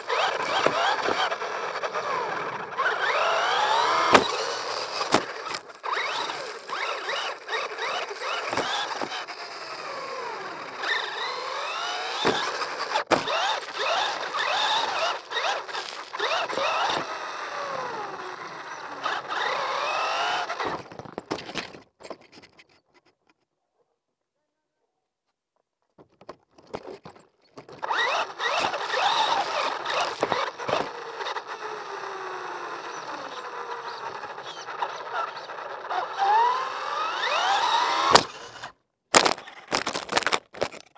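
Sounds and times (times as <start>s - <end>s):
toy car motor whining: 0.0s - 22.9s, 26.7s - 40.9s.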